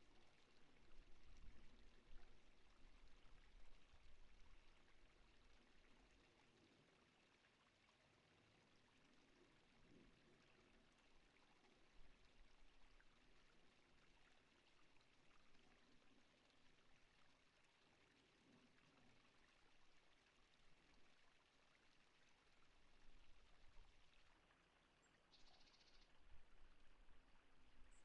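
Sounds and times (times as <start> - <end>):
faint water-like hiss: 0.0 - 28.0.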